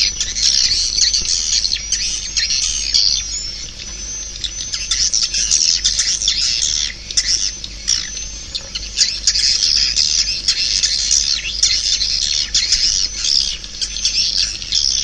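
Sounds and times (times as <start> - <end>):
swiftlet calls twittering: 0.0 - 15.0.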